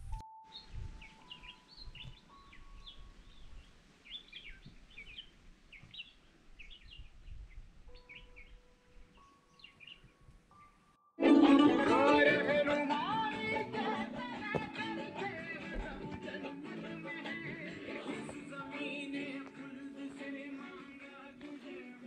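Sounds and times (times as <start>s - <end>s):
birds chirping: 0.5s - 11.4s, 12.1s - 22.0s.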